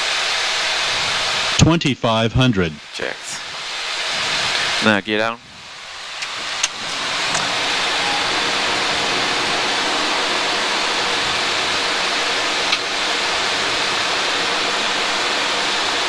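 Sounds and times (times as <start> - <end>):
rushing roar of airflow: 0.0 - 1.6, 2.8 - 16.0.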